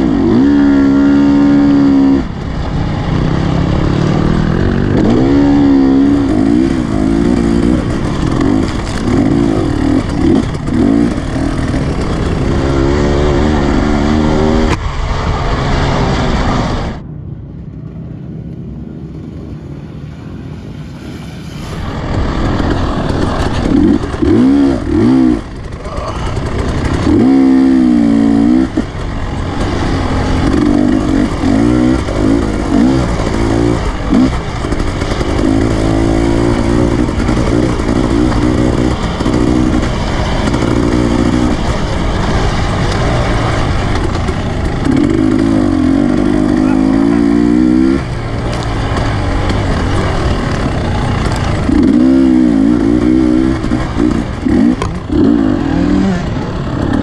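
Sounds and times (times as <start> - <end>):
dirt bike engine revving: 0.0 - 17.0, 21.2 - 57.0
distant dirt bike: 0.0 - 57.0.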